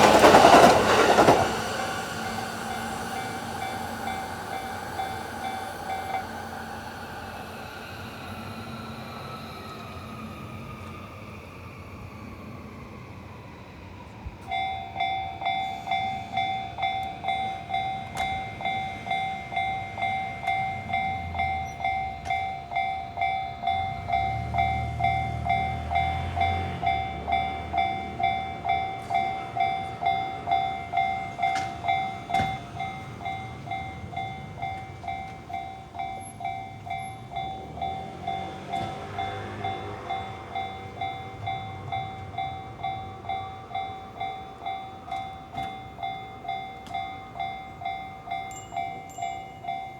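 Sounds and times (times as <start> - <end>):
level-crossing alarm clanging: 0.0 - 49.9.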